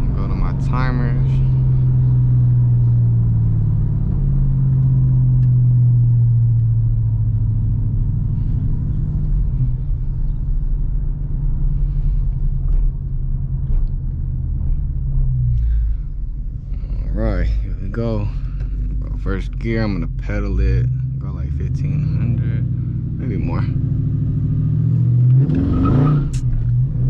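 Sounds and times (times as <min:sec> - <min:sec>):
car engine rumbling at low revs: 0:00.0 - 0:27.0.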